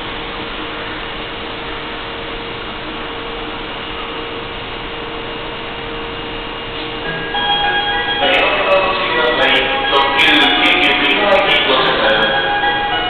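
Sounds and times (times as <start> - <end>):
station platform hum and hiss: 0.0 - 13.0.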